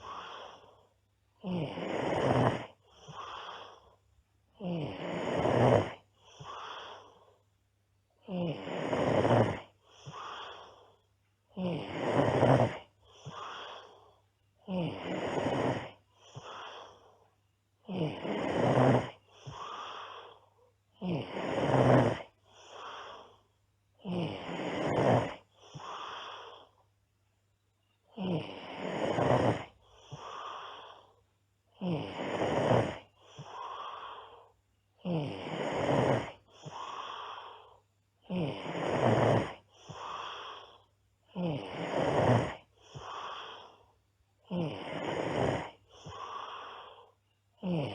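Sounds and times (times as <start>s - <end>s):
girl snoring loudly: 0.0s - 0.7s, 1.4s - 3.8s, 4.5s - 7.1s, 8.2s - 10.8s, 11.5s - 14.0s, 14.6s - 17.0s, 17.8s - 23.4s, 24.0s - 26.8s, 28.1s - 31.2s, 31.8s - 34.4s, 35.0s - 43.8s, 44.4s - 47.9s.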